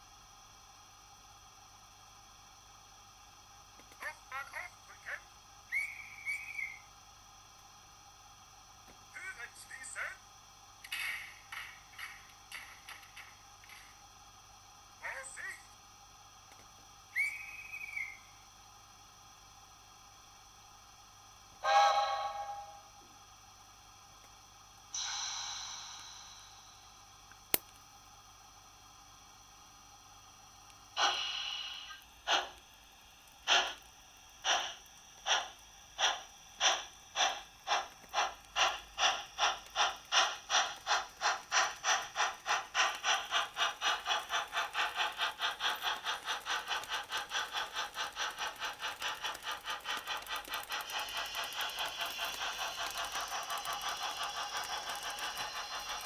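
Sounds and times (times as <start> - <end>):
hiss of steam: 0.0 - 27.6, 28.2 - 56.0
steam locomotive exhaust chuffs: 0.0 - 56.0.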